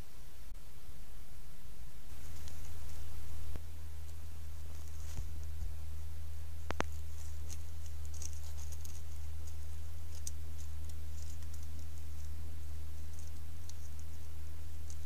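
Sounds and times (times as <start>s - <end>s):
low electrical hum: 0.0s - 15.0s
faint ticks and patter: 2.0s - 15.0s.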